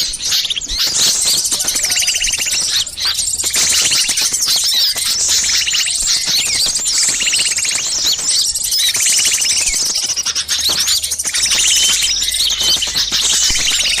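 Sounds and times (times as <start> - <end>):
songbirds chattering chorus: 0.0 - 14.0.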